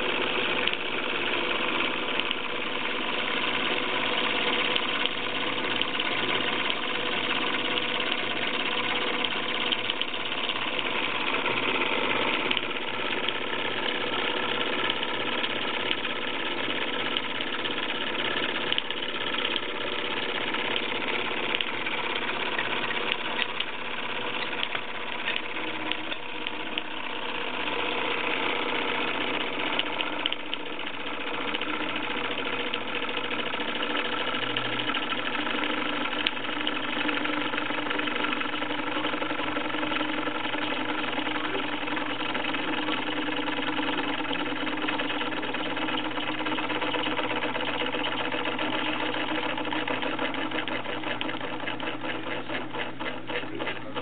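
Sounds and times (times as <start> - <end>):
steam engine running: 0.0 - 54.0.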